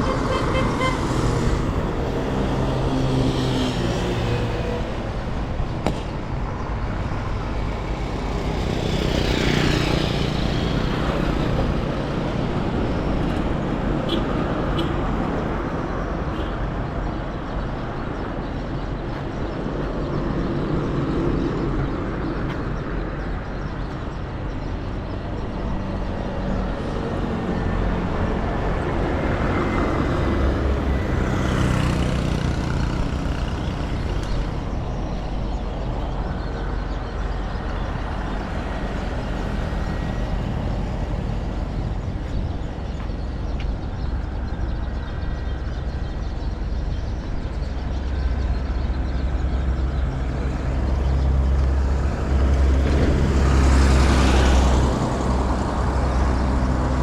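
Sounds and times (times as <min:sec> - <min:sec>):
heavy vehicle engines running: 0:00.0 - 0:57.0.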